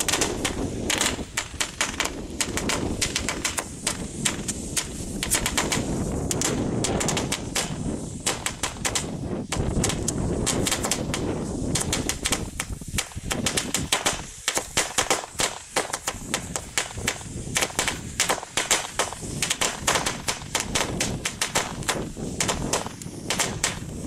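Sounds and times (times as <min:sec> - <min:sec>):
firecracker string bangs: 0:00.0 - 0:24.0.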